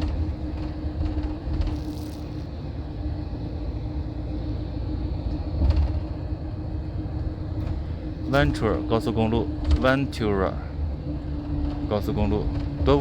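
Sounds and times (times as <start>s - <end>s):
bus riding rumble: 0.0s - 13.0s
constant hum: 0.0s - 13.0s.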